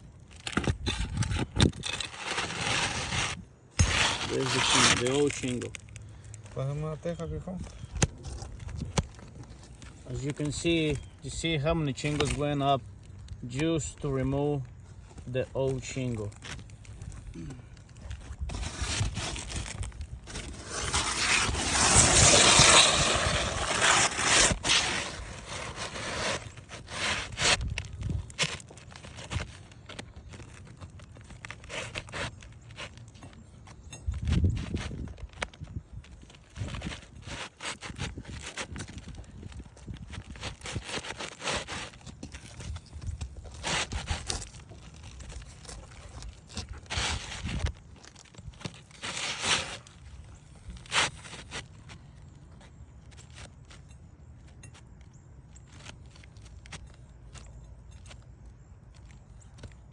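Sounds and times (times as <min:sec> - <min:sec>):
roof shingles scraping: 0:00.0 - 0:12.8, 0:13.4 - 0:53.9.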